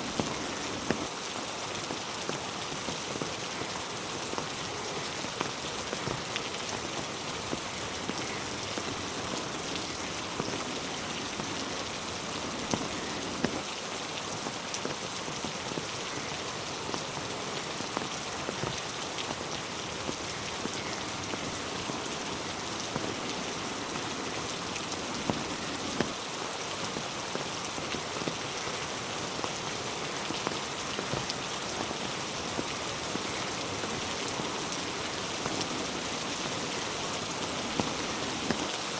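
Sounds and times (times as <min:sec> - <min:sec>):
raindrops tapping and splashing: 0:00.0 - 0:38.9
steady rain hiss: 0:00.0 - 0:38.9.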